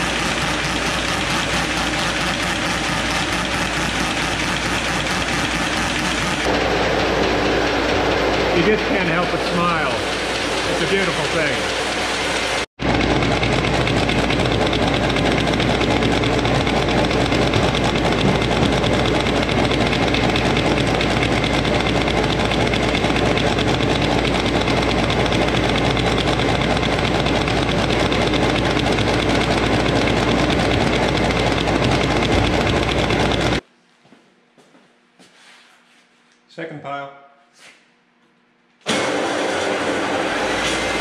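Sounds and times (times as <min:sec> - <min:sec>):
paper folder machine running: 0:00.0 - 0:33.6, 0:38.9 - 0:41.0.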